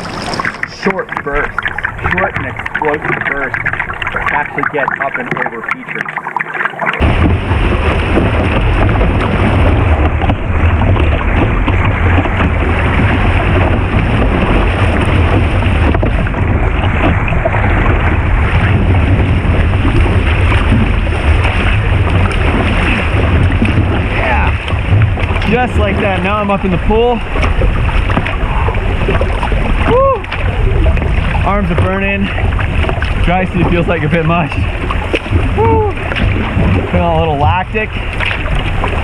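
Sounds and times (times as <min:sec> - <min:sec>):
rushing whitewater: 0:00.0 - 0:39.0
wind buffeting microphone: 0:07.0 - 0:39.0.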